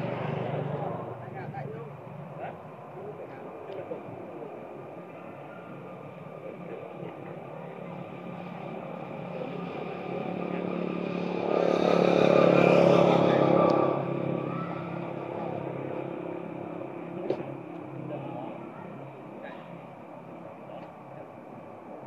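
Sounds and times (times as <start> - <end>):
vehicle engine passing: 0.0 - 21.1.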